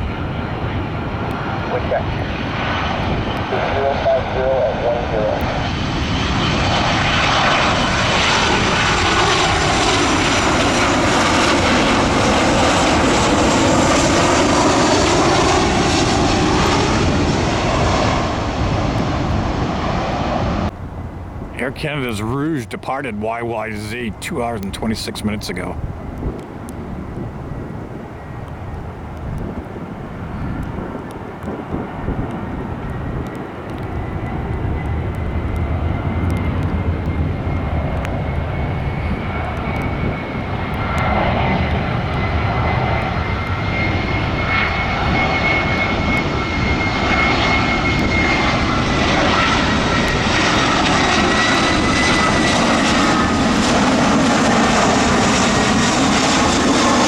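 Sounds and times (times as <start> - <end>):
jet engines rumbling and whining: 0.0 - 57.0.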